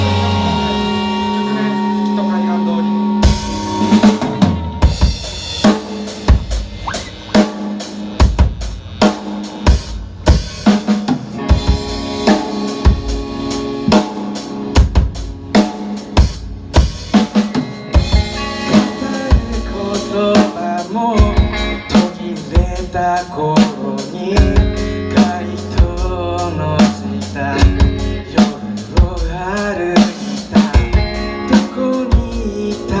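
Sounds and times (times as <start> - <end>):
rock band instrumental: 0.0 - 33.0
drum kit beat: 3.2 - 33.0.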